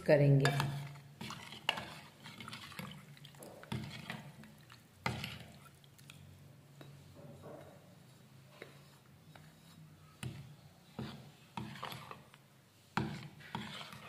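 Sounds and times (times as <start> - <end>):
liquid swishing in a bowl: 0.3 - 14.0.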